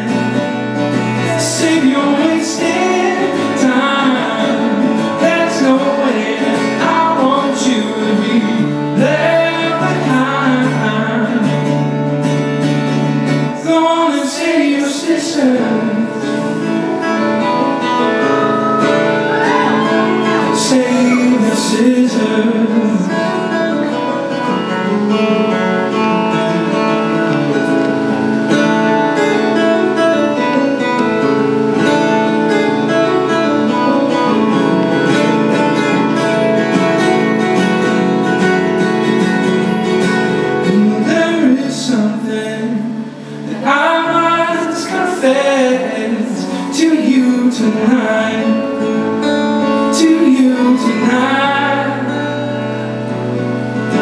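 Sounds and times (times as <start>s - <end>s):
man singing: 0.0s - 12.1s, 13.3s - 39.2s, 40.0s - 54.0s
acoustic guitar: 0.0s - 54.0s.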